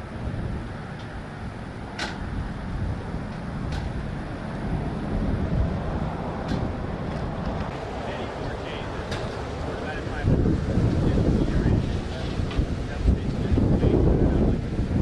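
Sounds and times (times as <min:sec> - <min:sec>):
road and wind noise: 0:00.0 - 0:15.0
vehicle driving rumble: 0:00.0 - 0:15.0.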